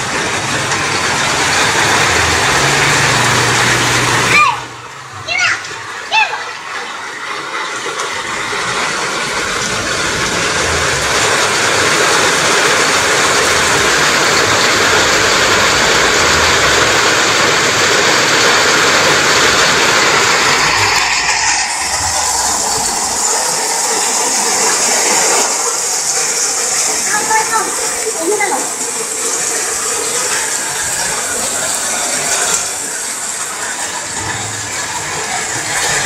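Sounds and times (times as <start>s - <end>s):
water rushing: 0.0s - 36.0s.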